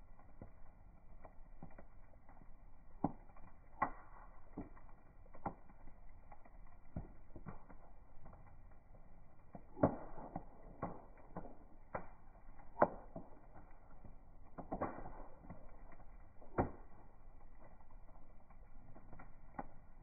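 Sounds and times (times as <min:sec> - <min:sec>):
bonfire crackling: 0:00.0 - 0:20.0.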